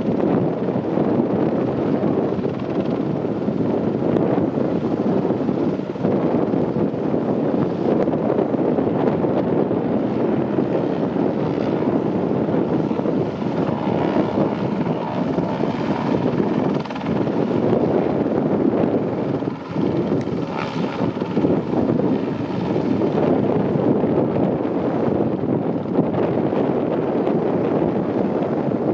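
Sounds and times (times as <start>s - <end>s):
helicopter flying low: 0.0s - 28.9s.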